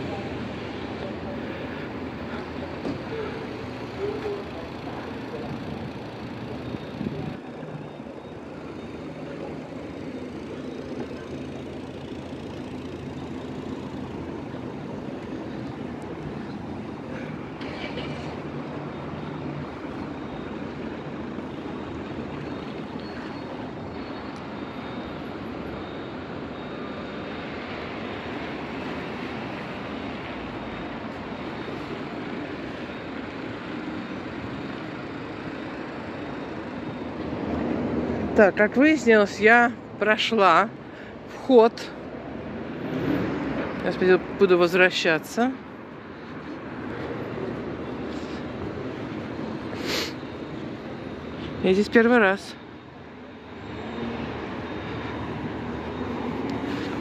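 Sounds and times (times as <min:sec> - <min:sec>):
city traffic noise: 0:00.0 - 0:57.0.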